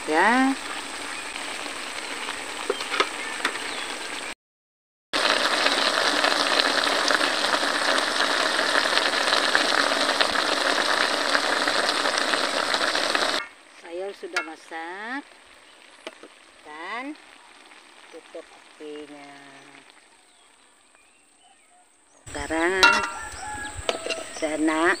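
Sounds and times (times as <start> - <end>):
vegetables sizzling in a wok: 0.0 - 4.4, 5.2 - 25.0.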